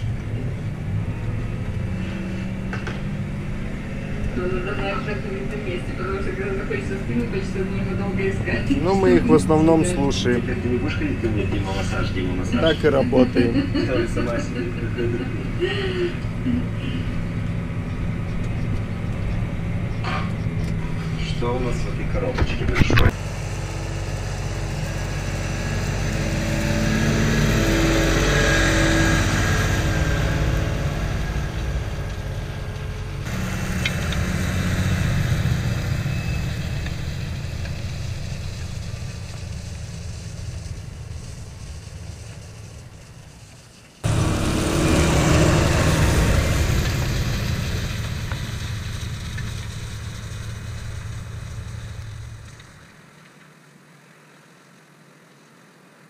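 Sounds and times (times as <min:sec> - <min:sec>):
tractor diesel engine under load: 0:00.0 - 0:53.1.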